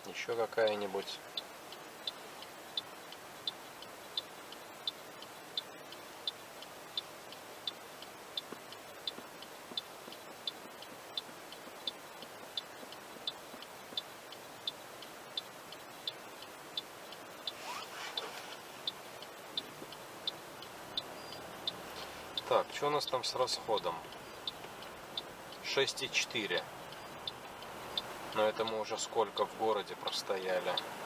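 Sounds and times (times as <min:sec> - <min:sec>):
turn signal ticking: 0:00.0 - 0:31.0.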